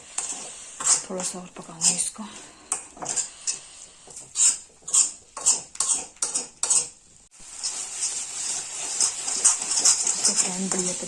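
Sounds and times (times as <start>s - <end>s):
spoon scraping a pan: 0.0s - 7.0s, 7.6s - 11.0s.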